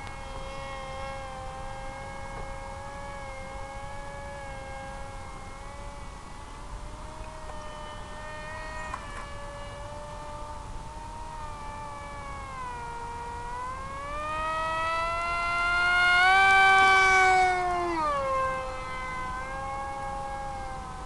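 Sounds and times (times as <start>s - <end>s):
electric motor and propeller whining: 0.0s - 21.0s.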